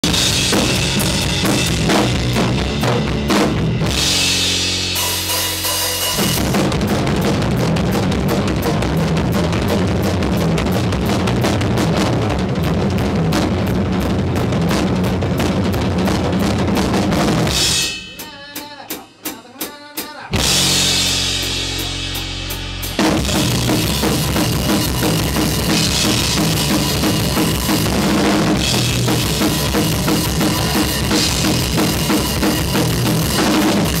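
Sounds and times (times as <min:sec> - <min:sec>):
punk rock drums and bass: 0:00.0 - 0:34.0.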